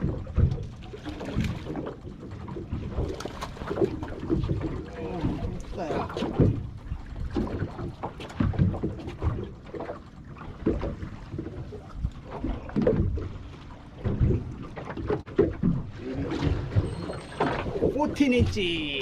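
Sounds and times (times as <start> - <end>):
waves slapping against boat hull: 0.0 - 19.0.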